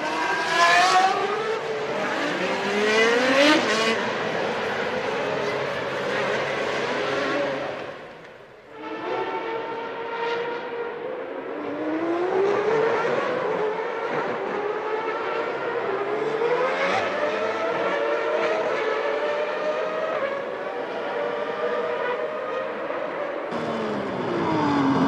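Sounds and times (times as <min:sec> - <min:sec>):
racing car engines revving past: 0:00.0 - 0:25.0.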